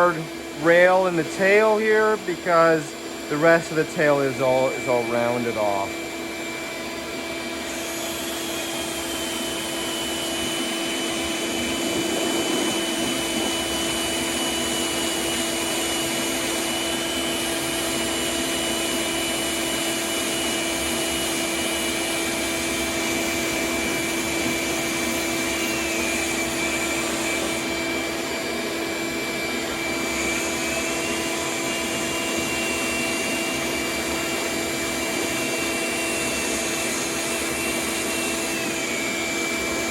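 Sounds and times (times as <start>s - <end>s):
vacuum motor running: 0.0s - 39.9s.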